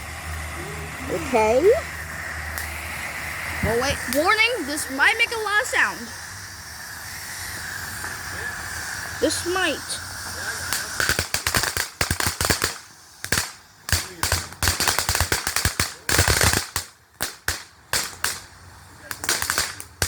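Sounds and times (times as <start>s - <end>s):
firework bangs and crackles: 0.0s - 20.0s.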